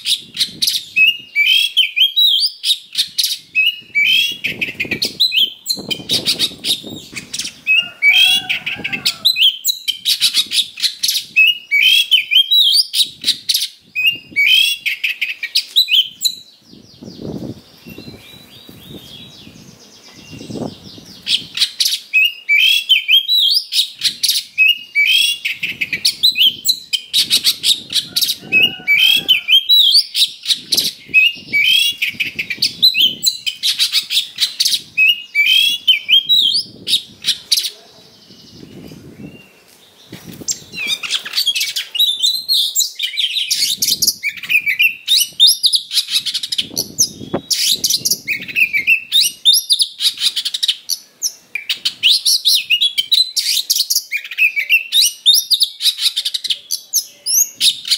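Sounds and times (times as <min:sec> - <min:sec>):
magpie-robin singing: 0:00.0 - 0:57.9.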